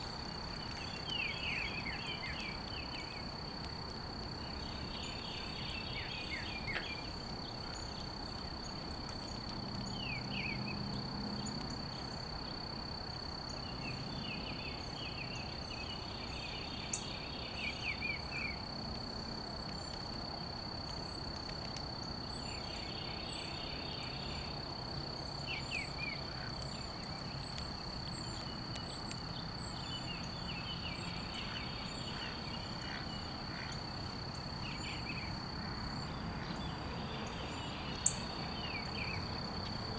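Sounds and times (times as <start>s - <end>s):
insect drone: 0.0s - 39.9s
insects chirping trills: 0.0s - 39.9s.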